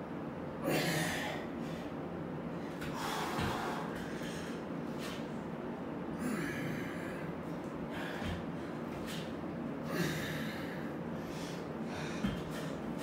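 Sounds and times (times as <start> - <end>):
man breathing hard: 0.6 - 5.2, 6.2 - 13.0.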